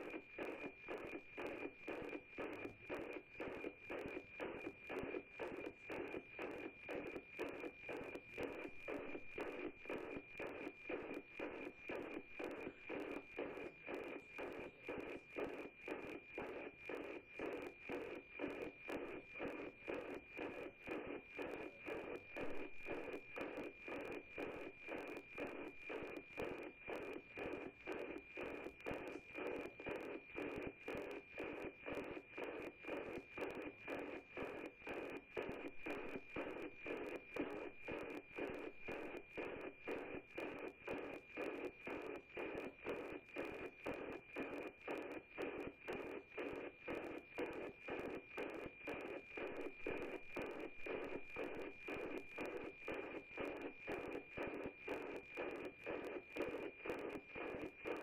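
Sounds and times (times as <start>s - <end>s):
satellite signal tone ticking: 0.0s - 58.0s.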